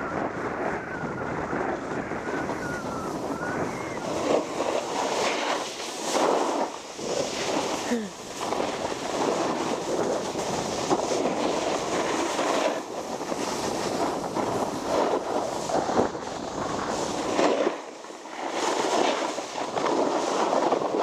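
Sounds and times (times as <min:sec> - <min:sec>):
wind on microphone: 0:00.0 - 0:21.0
snowboard scraping on snow: 0:00.1 - 0:21.0.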